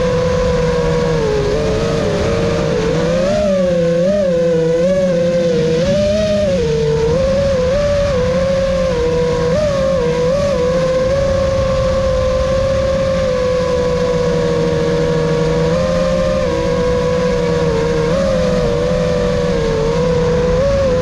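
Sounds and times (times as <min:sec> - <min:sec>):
quadcopter motors buzzing whine: 0:00.0 - 0:21.0
rushing prop wash: 0:00.0 - 0:21.0.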